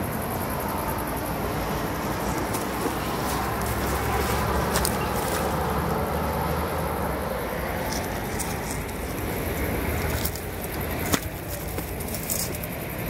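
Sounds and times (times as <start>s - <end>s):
rushing outdoor noise with rumble: 0.0s - 13.0s.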